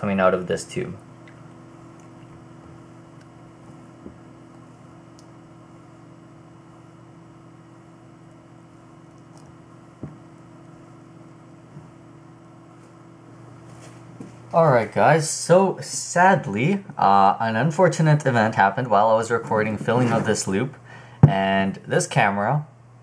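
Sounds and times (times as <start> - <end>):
water pump humming: 0.0 - 23.0.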